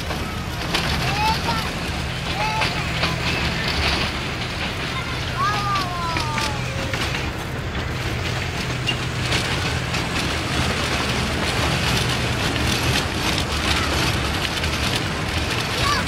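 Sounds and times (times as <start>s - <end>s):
carriages and wheels rattling: 0.0s - 16.0s
low engine hum: 0.0s - 16.0s.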